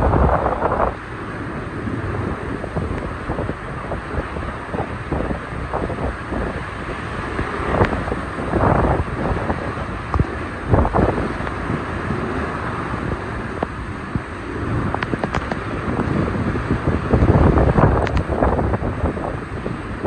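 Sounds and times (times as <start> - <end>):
hurricane wind gusting: 0.0 - 20.0
torrential rain: 0.0 - 20.0
wind buffeting microphone: 0.0 - 20.0.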